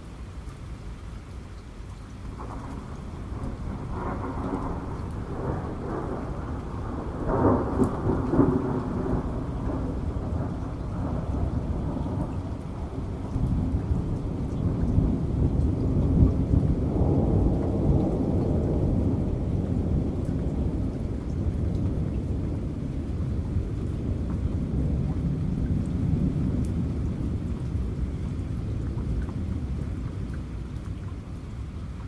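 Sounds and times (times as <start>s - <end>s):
heavy rain falling: 0.0s - 32.0s
thunder rumbling: 2.3s - 31.0s.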